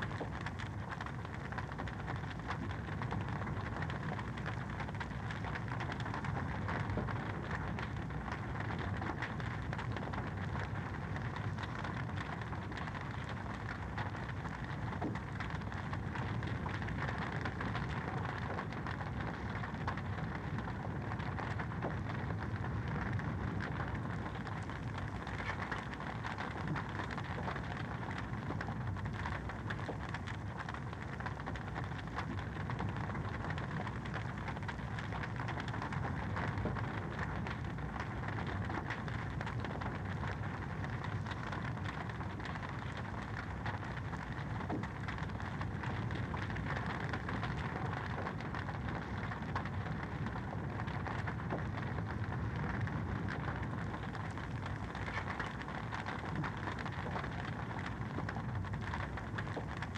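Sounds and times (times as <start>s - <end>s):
fire crackling in a fireplace: 0.0s - 59.9s.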